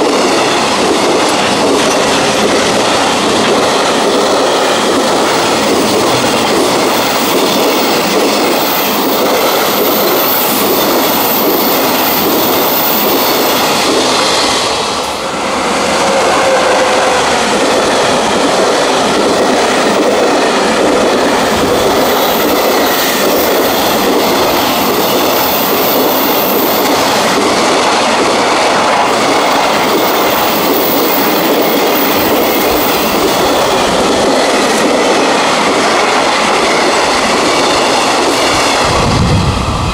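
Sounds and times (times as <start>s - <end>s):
freight train wagons rattling: 0.0s - 39.1s.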